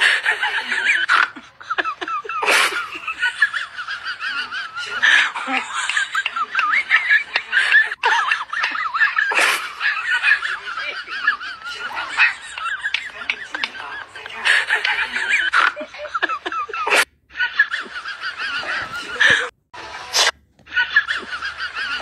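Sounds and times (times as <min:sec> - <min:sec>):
high warbling laughter: 0:00.0 - 0:22.0.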